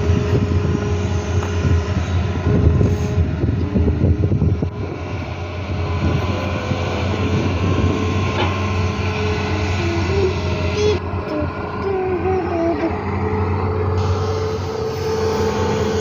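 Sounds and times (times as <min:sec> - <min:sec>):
excavator diesel engine droning: 0:00.0 - 0:16.0
high wavering whine: 0:00.0 - 0:16.0.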